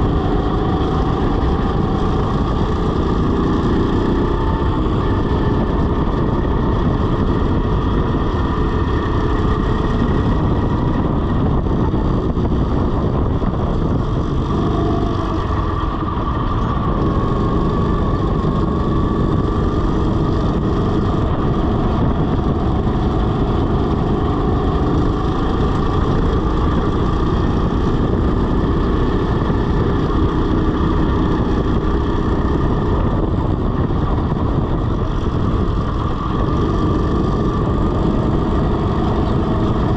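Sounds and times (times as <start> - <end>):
go-kart motor running: 0.0 - 39.9
wind and road noise: 0.0 - 39.9.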